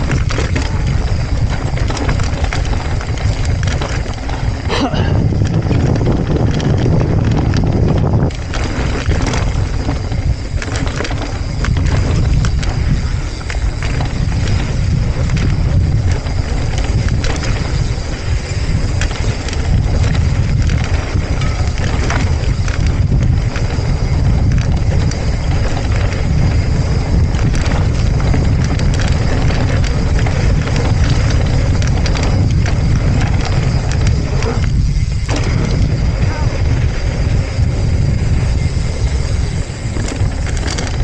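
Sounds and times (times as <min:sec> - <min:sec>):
bike rattling over bumps: 0:00.0 - 0:41.0
wind rumble on microphone: 0:00.0 - 0:41.0.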